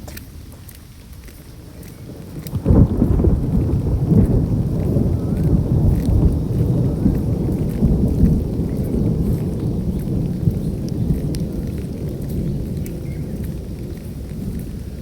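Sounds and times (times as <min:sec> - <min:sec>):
heavy rain falling: 0:00.4 - 0:15.0.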